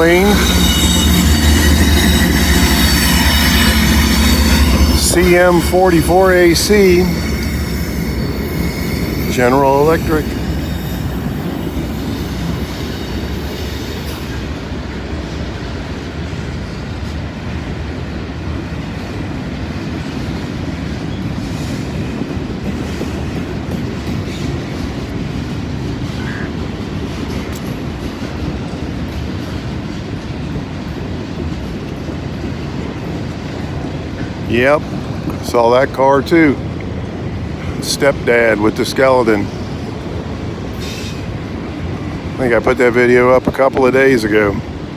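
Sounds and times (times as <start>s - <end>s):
clickety-clack of train wheels: 0.0s - 44.9s
steel wheels rumbling on rail: 0.0s - 44.9s.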